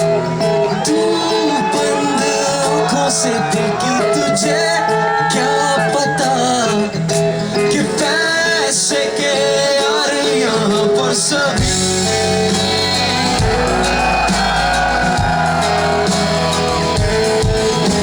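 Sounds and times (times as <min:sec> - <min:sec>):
guitar: 0:00.0 - 0:18.0
live rock band playing: 0:00.0 - 0:18.0
person singing: 0:00.0 - 0:18.0.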